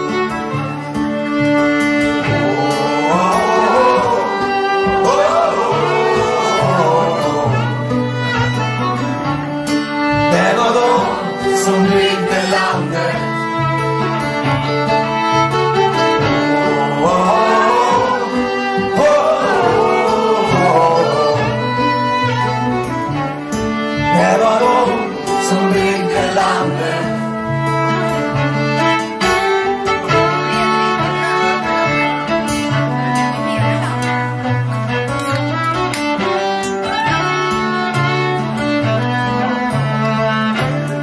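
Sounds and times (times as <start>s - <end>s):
fiddle melody: 0.0s - 41.0s
strummed acoustic guitar: 0.0s - 41.0s.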